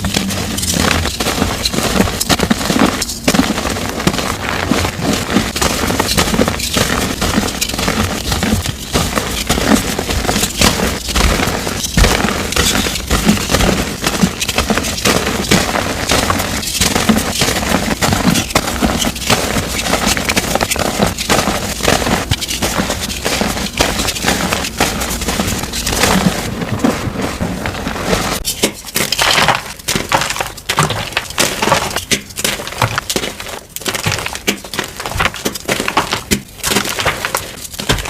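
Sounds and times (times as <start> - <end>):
chalk blocks crunching: 0.0 - 38.0.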